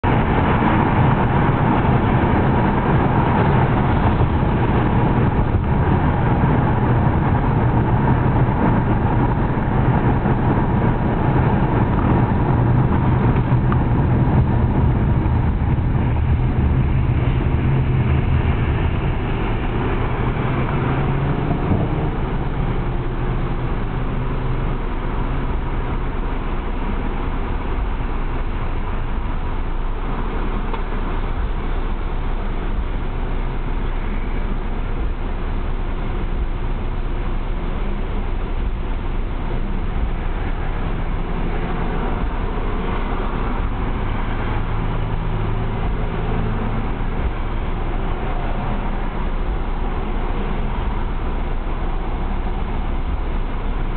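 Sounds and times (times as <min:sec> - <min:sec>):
car engine and road noise: 0:00.0 - 0:53.9.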